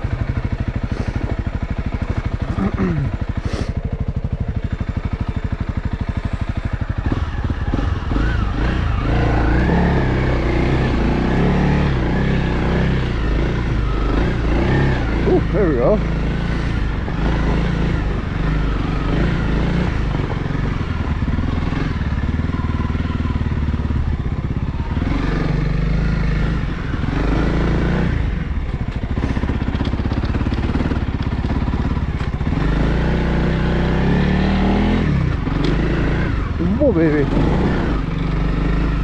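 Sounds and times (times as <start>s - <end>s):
motorcycle engine under load: 0.0s - 39.0s.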